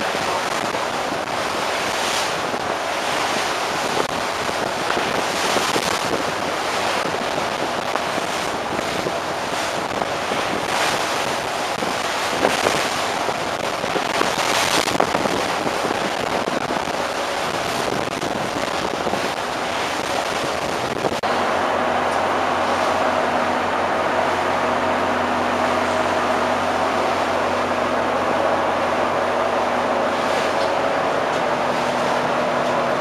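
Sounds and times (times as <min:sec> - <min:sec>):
sea rushing along hull: 0:00.0 - 0:33.0
wind buffeting microphone: 0:00.0 - 0:33.0.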